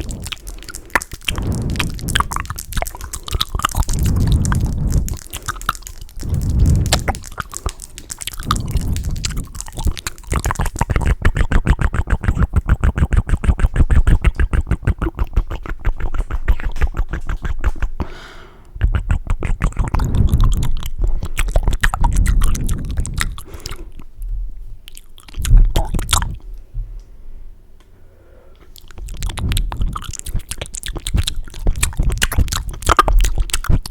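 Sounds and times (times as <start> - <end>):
wet mouth and tongue sounds: 0.0 - 18.1, 18.7 - 26.6, 28.6 - 33.9.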